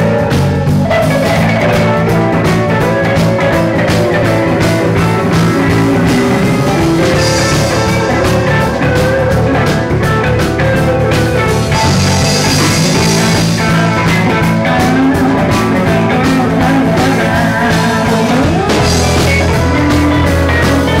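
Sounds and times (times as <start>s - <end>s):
drum kit: 0.0s - 21.0s
electric bass: 0.0s - 21.0s
electric guitar: 0.0s - 21.0s.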